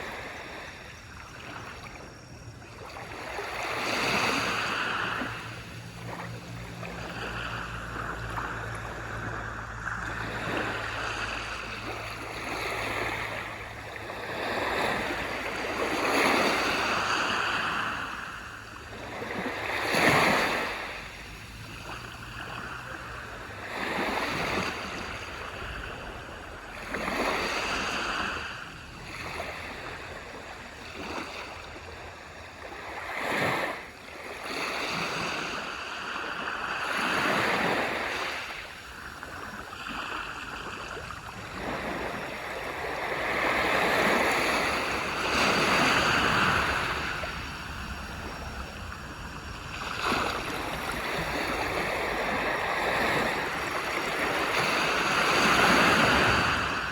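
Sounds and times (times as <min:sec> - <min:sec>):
small waves breaking on beach: 0:00.0 - 0:56.9.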